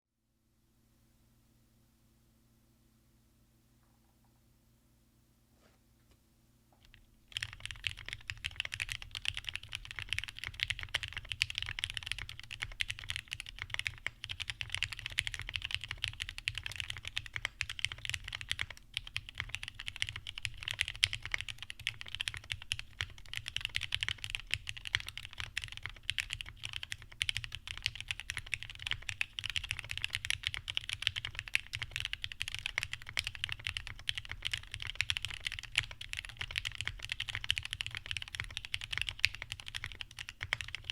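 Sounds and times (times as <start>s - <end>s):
fast typing on mechanical keyboard: 6.9s - 40.9s.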